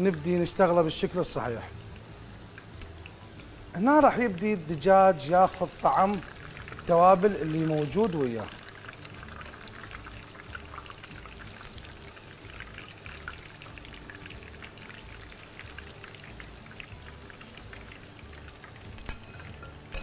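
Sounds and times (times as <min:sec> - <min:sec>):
chicken sizzling in a pan: 0:00.0 - 0:20.0.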